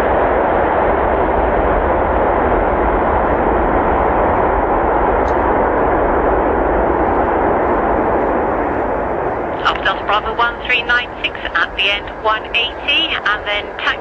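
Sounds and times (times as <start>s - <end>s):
jet engines on runway roll: 0.0s - 14.0s.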